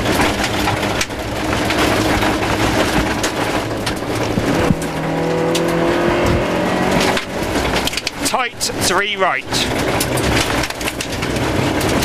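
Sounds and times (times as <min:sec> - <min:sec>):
gear change: 0:00.0 - 0:12.0
rally car engine driving hard: 0:00.0 - 0:12.0.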